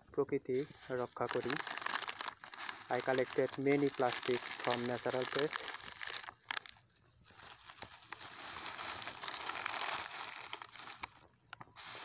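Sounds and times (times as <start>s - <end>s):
plastic wrappers crinkling: 0.6s - 11.2s, 11.8s - 12.0s.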